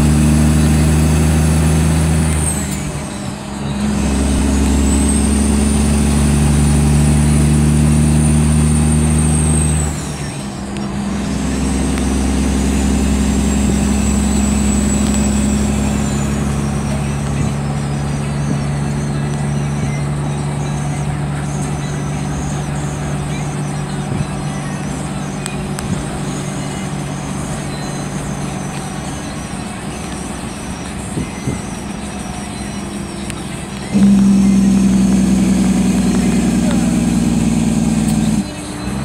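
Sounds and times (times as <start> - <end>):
diesel truck engine: 0.0 - 39.0
high whine: 0.0 - 39.0.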